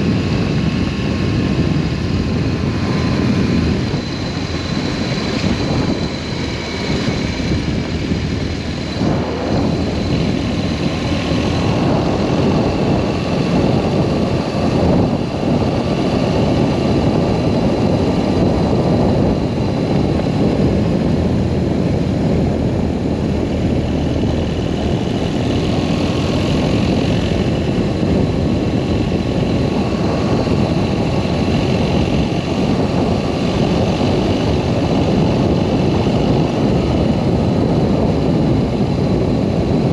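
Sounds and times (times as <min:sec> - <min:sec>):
motorcycle engine running: 0:00.0 - 0:39.9
wind noise rushing: 0:00.0 - 0:39.9.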